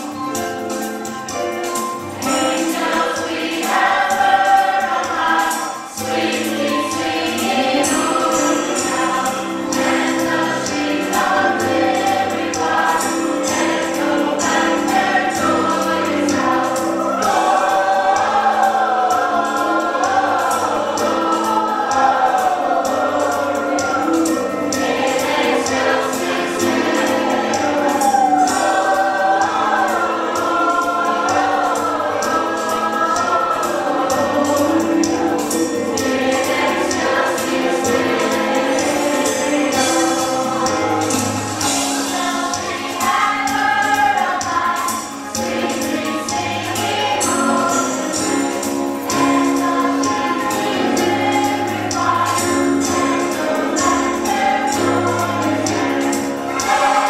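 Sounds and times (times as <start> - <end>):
choir singing with accompaniment: 0.0 - 57.0.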